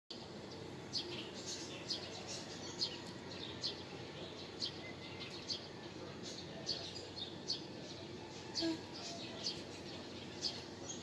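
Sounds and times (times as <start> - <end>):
low steady background noise: 0.1 - 11.0
small birds chirping: 0.1 - 11.0.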